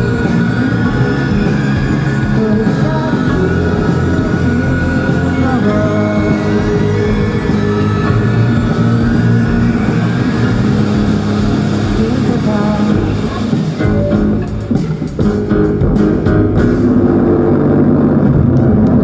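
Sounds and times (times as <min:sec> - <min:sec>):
rock band instrumental: 0:00.0 - 0:18.5.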